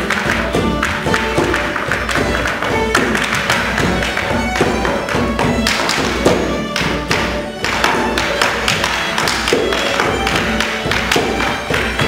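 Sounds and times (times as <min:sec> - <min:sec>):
dancer's shoes tapping and stamping: 0:00.0 - 0:12.0
fiddle tune: 0:00.0 - 0:12.0.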